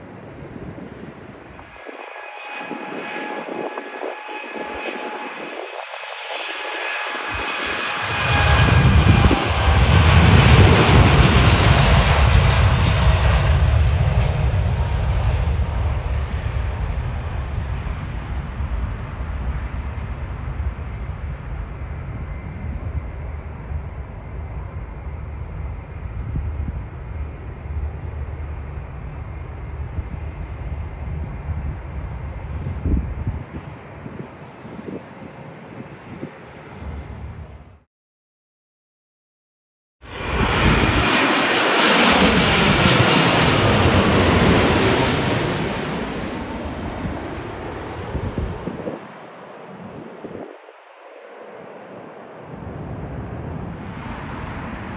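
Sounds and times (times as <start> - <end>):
distant jet engine rumble: 0.0 - 37.8, 40.1 - 54.9.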